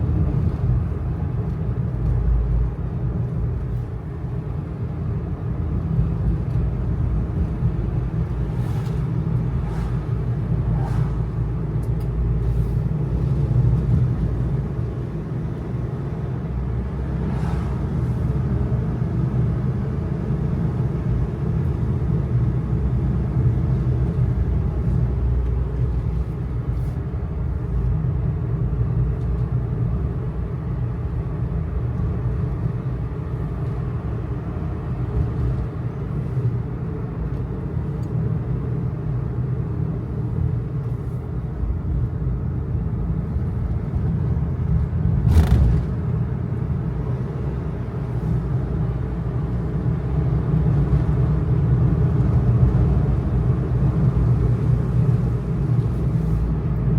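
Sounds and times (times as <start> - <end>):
truck engine and road rumble: 0.0 - 56.9.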